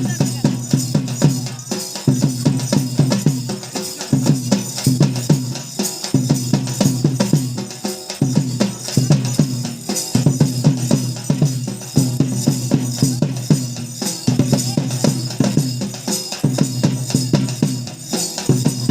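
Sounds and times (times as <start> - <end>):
fast drumming: 0.0 - 18.9.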